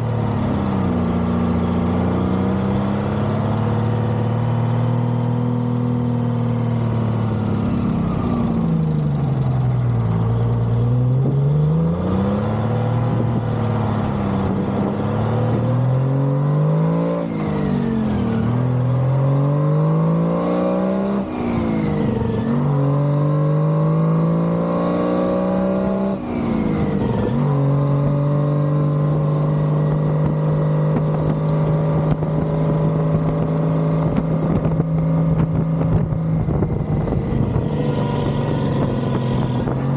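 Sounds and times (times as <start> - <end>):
truck diesel engine shifting gears: 0.0 - 39.9.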